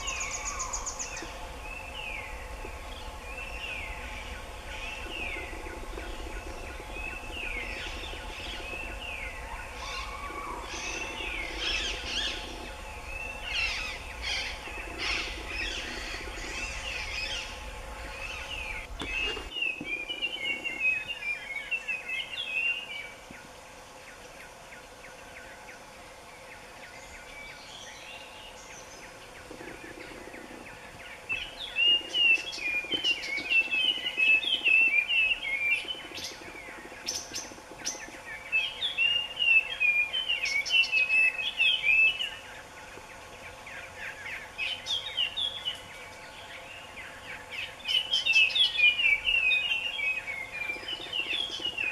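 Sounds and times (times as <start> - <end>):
birds chirping and twittering: 0.0 - 51.9.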